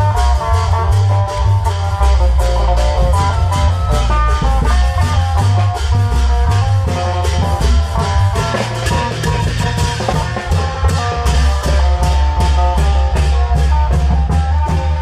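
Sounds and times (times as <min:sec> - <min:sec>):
amplified melody line: 0:00.0 - 0:15.0
driving drum beat: 0:00.0 - 0:15.0
heavy bass: 0:00.0 - 0:15.0.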